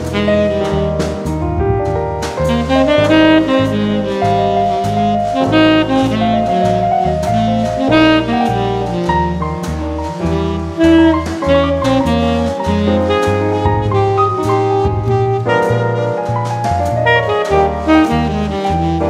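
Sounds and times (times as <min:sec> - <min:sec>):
bass line: 0:00.0 - 0:19.0
drums: 0:00.0 - 0:19.0
saxophone melody: 0:00.0 - 0:19.0.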